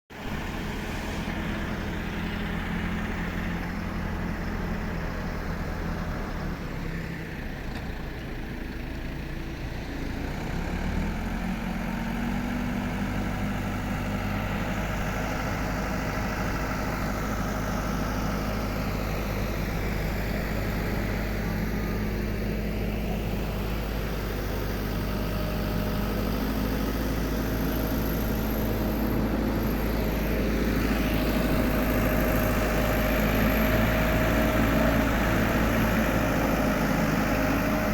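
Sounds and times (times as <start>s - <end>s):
engine running: 0.1s - 37.9s.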